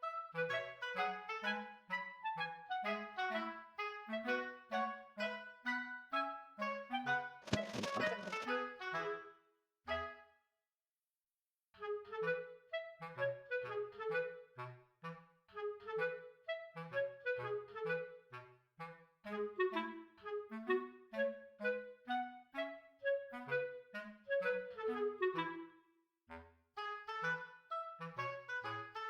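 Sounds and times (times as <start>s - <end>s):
bouncy woodwind tune: 0.0s - 10.3s, 11.8s - 29.0s.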